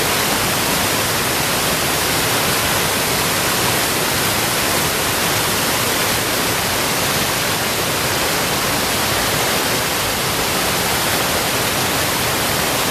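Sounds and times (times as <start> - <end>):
stream rushing over drop: 0.0 - 12.9.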